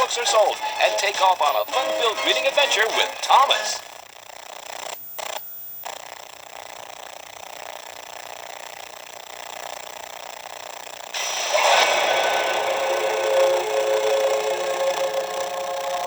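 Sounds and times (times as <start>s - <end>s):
tape playback hiss: 0.0s - 16.0s.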